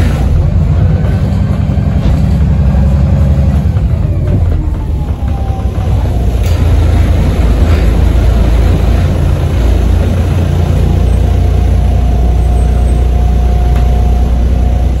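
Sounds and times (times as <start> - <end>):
bus engine drone: 0.0 - 15.0
turbo whine: 2.6 - 15.0.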